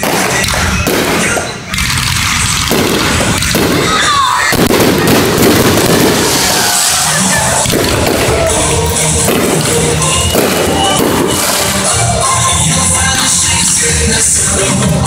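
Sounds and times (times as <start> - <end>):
fireworks booming: 0.0 - 14.4.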